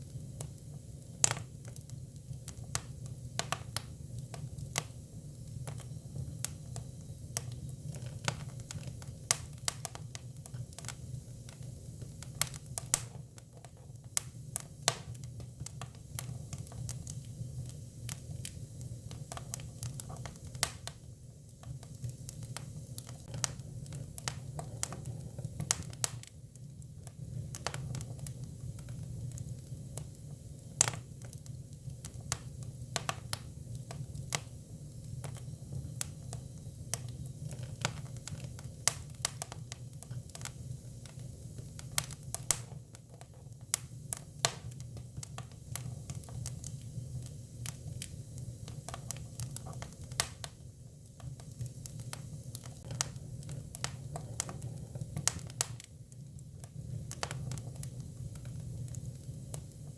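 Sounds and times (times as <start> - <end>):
fire rumbling: 0.0 - 59.9
firewood crackling and popping: 0.0 - 59.9.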